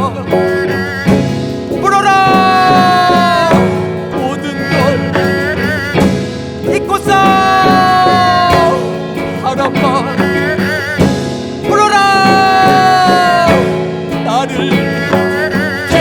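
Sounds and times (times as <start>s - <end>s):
drum and percussion: 0.0s - 16.0s
sliding held melody notes: 0.0s - 16.0s.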